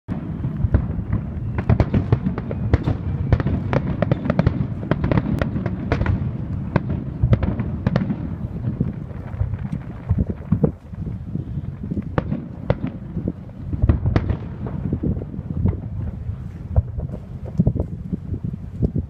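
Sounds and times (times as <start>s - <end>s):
fireworks crackling: 0.1s - 19.0s.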